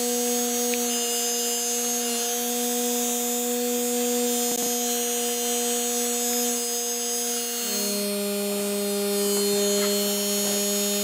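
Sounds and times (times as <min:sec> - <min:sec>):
drill motor humming: 0:00.0 - 0:11.0.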